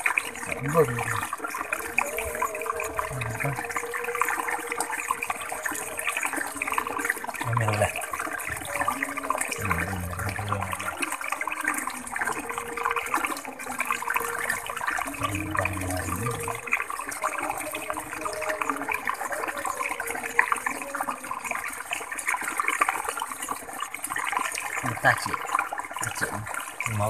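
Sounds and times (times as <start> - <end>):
running water splashing: 0.0 - 27.0.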